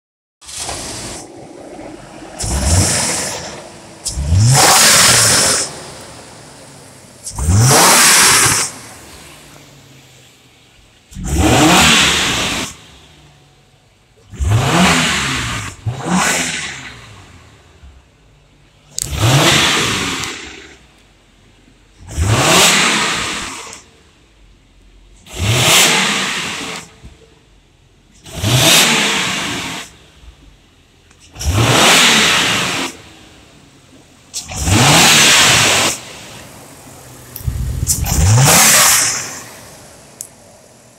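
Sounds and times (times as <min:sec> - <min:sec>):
engine idling and revving: 0:00.4 - 0:40.9.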